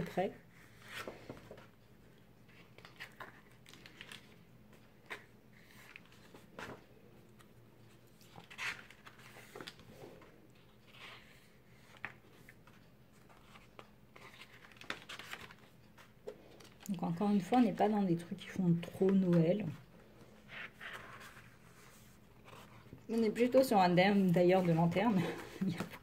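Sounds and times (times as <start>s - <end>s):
paper pages rustling: 0.6s - 17.6s, 18.8s - 23.5s.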